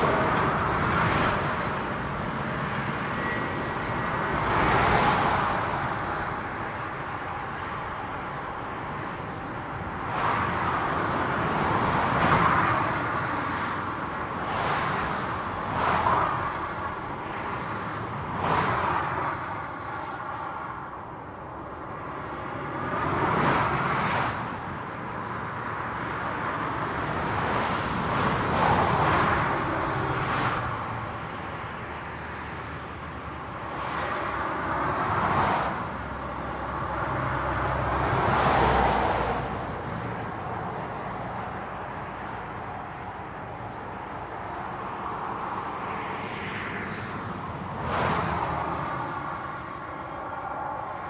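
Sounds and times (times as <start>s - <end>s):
highway traffic rush: 0.0s - 51.0s
vehicles passing: 0.0s - 51.0s.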